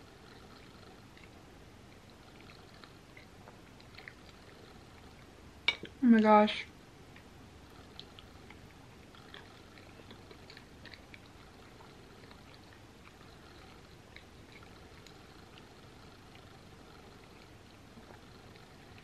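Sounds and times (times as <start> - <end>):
faint chewing with wet mouth clicks: 0.0 - 6.0, 7.1 - 19.0.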